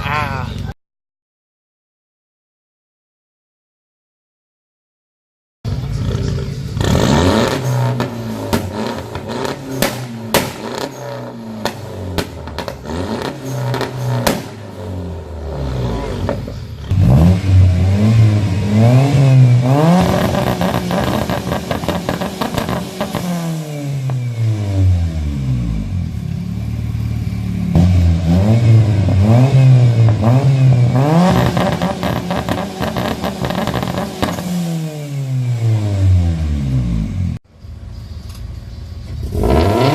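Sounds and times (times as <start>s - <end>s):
car engine revving: 5.7s - 37.4s, 38.8s - 39.9s.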